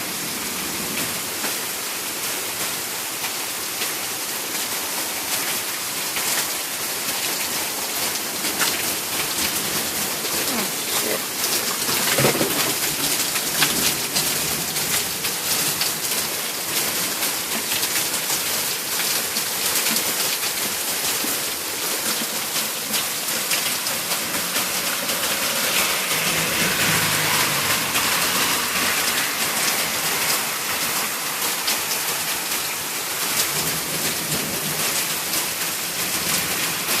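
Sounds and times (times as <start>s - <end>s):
heavy rain pattering: 0.0s - 37.0s.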